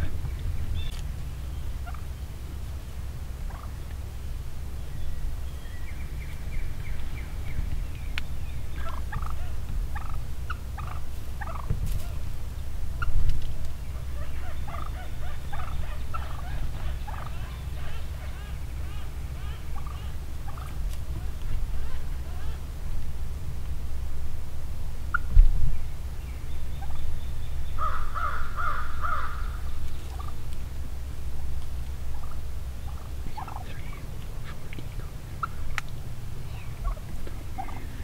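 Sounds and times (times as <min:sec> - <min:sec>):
wild turkeys calling: 0:00.0 - 0:24.1, 0:25.0 - 0:38.0.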